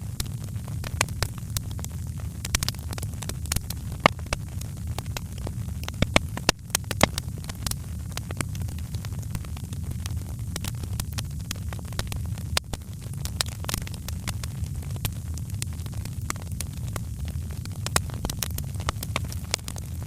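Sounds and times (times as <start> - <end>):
fire crackling and popping: 0.0 - 20.0
steady low rumble: 0.0 - 20.0.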